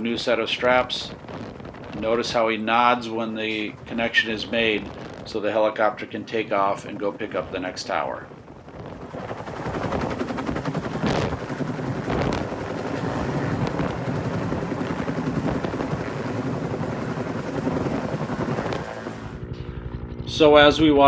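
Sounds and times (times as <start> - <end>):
helicopter rotor chopping: 0.0 - 21.0.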